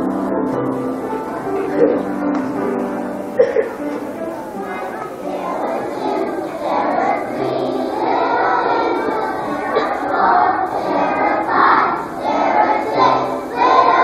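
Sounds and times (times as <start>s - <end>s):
children's choir singing: 0.0s - 14.0s
murmur of children crowd: 0.0s - 14.0s.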